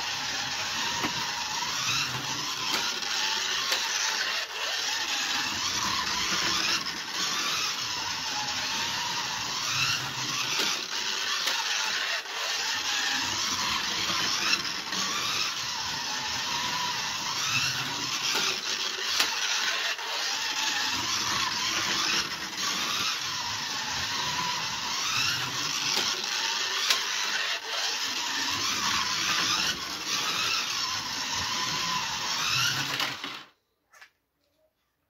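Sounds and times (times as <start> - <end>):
slot car motor whining: 0.0 - 33.5.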